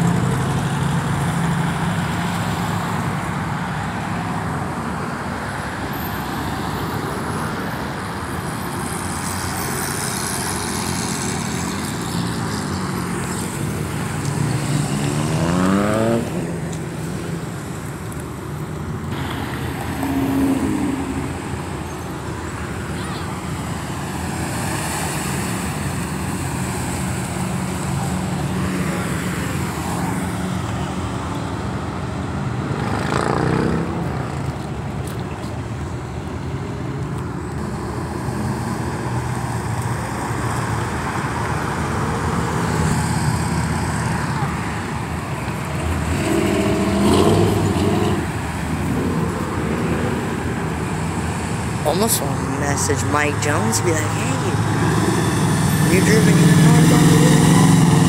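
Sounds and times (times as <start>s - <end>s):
cars passing by: 0.0s - 58.0s.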